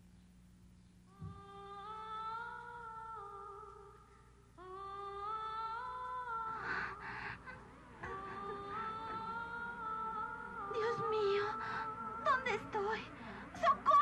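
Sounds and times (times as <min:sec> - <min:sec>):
humming-like cartoon music: 0:01.1 - 0:14.0.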